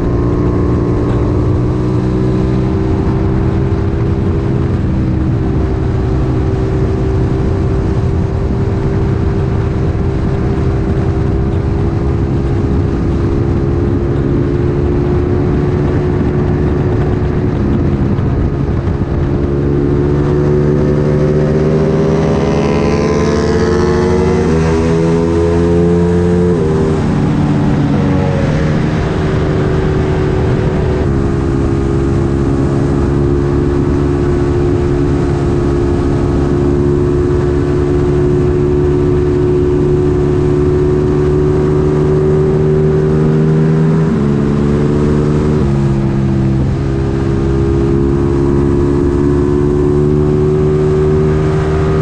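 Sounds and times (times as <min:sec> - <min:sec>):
motorcycle engine accelerating: 0:00.0 - 0:52.0
wind rush: 0:00.0 - 0:52.0.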